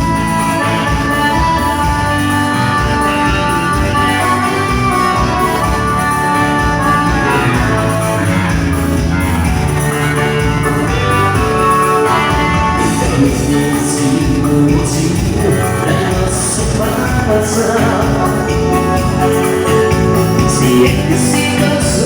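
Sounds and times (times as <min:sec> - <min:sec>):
live dance band music: 0:00.0 - 0:22.0.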